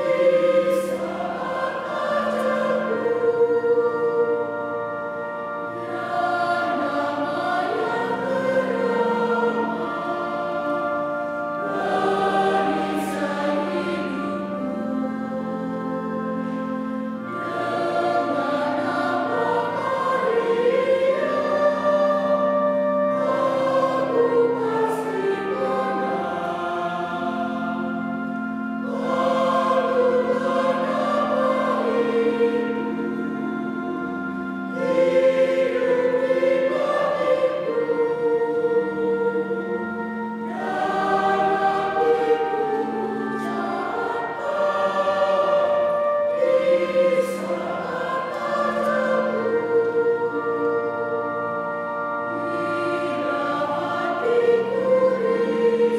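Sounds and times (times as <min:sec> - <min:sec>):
choir singing a hymn: 0:00.0 - 0:55.9.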